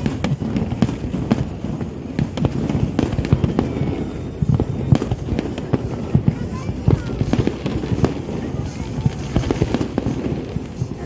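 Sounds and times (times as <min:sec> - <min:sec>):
distant explosions rumbling: 0:00.0 - 0:11.0
fireworks crackling bangs: 0:00.0 - 0:11.0.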